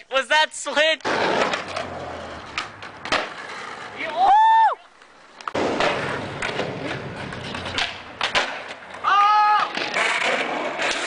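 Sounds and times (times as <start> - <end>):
skateboard wheels rolling on asphalt: 0.2 - 11.0
skateboard hitting ground: 1.0 - 4.4, 5.4 - 11.0.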